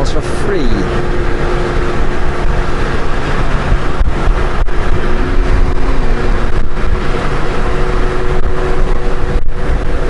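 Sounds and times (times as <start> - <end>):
motorcycle engine drone: 0.0 - 10.0
wind rush: 0.0 - 10.0.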